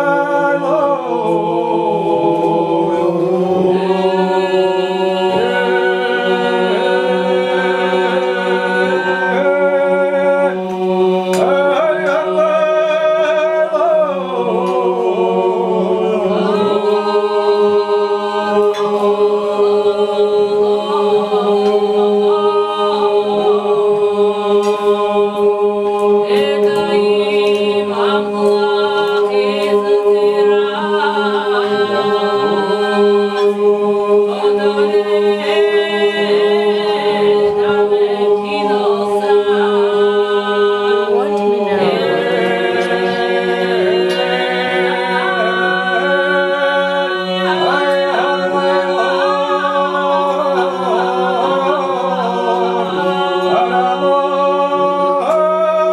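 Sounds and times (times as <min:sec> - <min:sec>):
men singing a cappella: 0:00.0 - 0:55.9.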